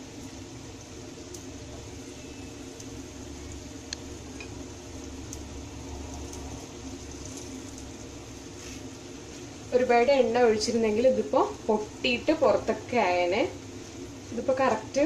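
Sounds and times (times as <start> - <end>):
balls frying in oil: 0.0 - 15.0.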